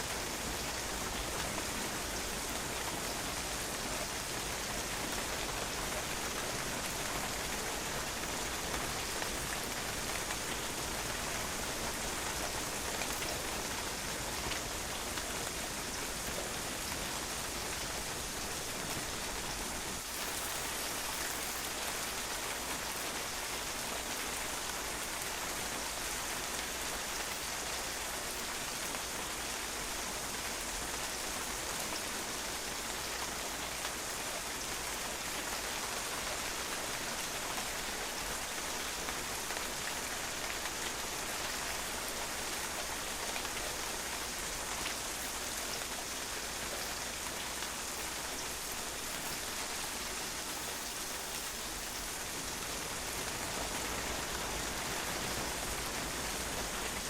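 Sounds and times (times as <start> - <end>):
rain pattering on a patio: 0.0 - 57.0.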